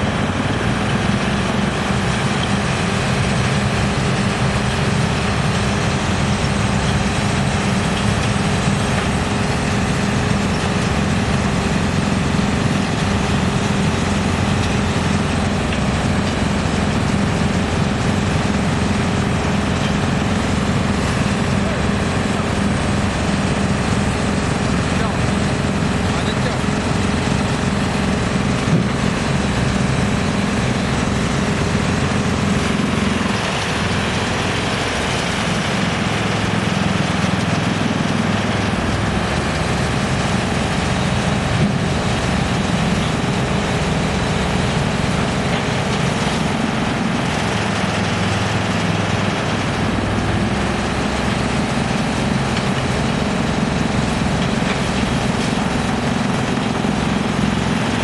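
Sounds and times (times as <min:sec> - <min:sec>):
wood chipper running: 0:00.0 - 0:58.0.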